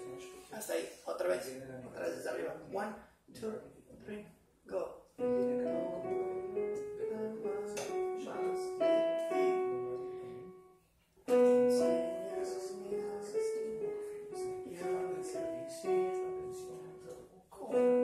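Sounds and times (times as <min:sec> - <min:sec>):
digital piano melody over chords: 0:00.0 - 0:02.4, 0:05.2 - 0:18.0.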